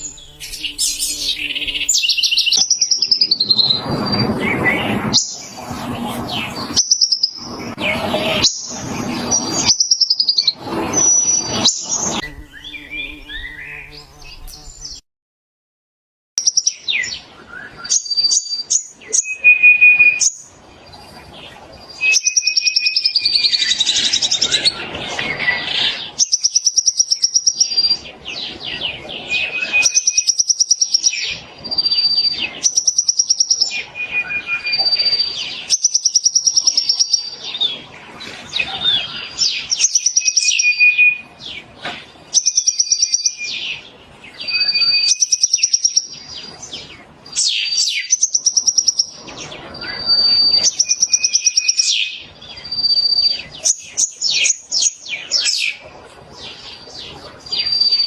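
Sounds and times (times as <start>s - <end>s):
bird singing trills and whistles: 0.0s - 15.0s, 16.4s - 41.6s, 42.3s - 58.0s.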